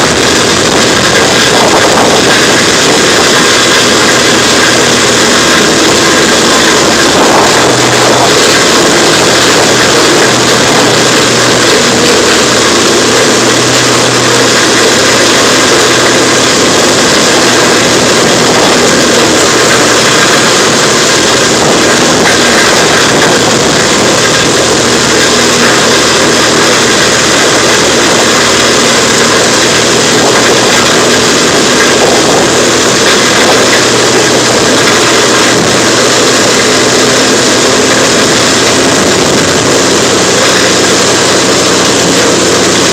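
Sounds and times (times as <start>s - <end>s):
wood chipper engine running: 0.0s - 42.9s.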